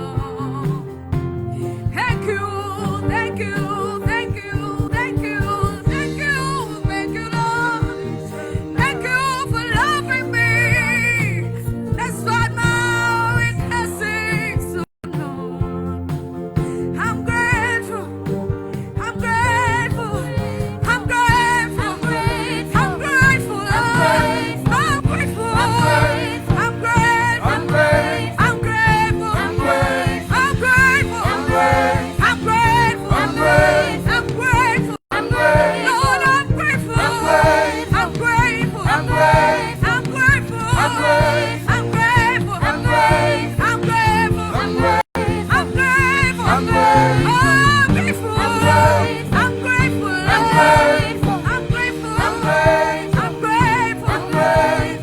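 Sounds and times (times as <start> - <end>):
gospel singing with vibrato: 0.0 - 55.0
sustained keyboard and bass chords: 0.0 - 55.0.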